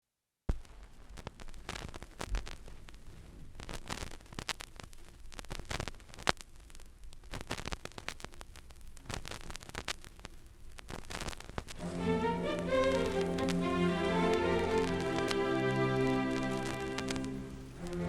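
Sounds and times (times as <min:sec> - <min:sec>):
vinyl crackles and pops: 0:00.5 - 0:18.0.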